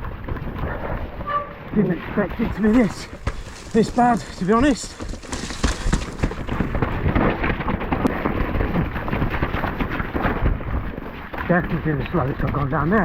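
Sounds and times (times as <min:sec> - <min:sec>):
bike rattling and knocking: 0:00.0 - 0:13.0.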